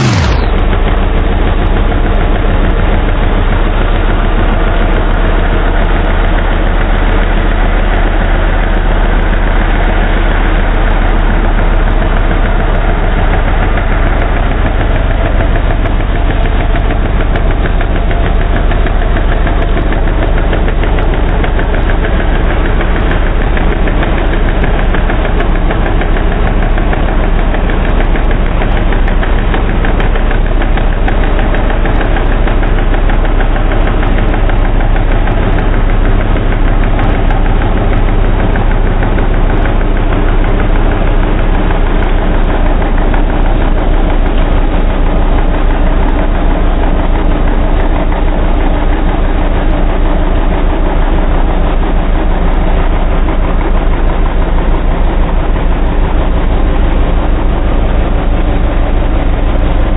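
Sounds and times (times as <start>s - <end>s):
truck engine running loud: 0.0s - 59.9s.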